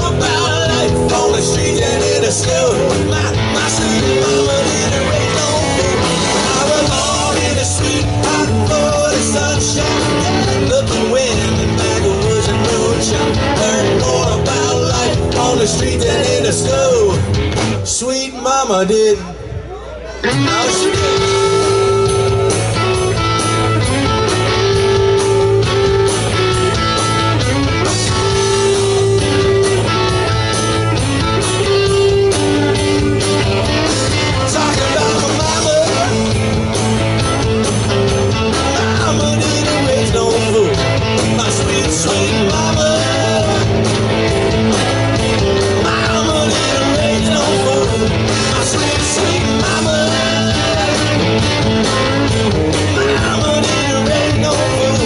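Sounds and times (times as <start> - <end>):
electric guitars: 0.0 - 18.1, 19.2 - 55.0
bass: 0.0 - 55.0
drums: 0.0 - 55.0.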